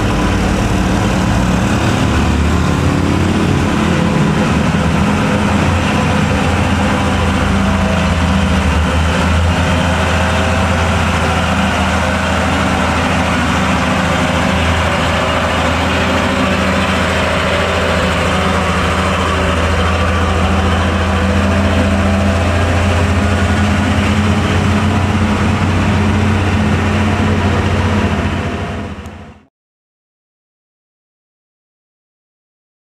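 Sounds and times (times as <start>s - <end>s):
truck diesel engine droning: 0.0s - 29.5s.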